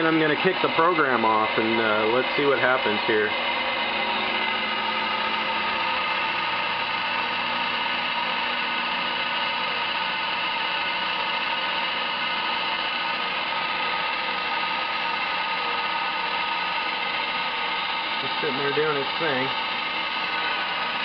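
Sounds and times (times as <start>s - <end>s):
lathe spindle whine: 0.0s - 21.0s
motor hum: 0.0s - 21.0s.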